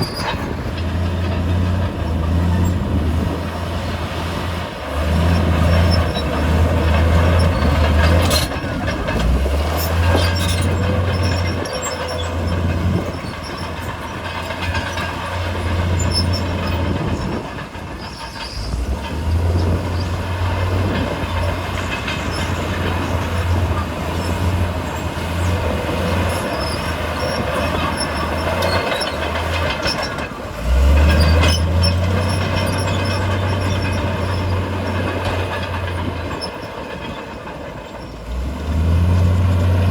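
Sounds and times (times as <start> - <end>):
bulldozer diesel engine under load: 0.0 - 39.9
clatter of tracks and rock: 0.0 - 39.9.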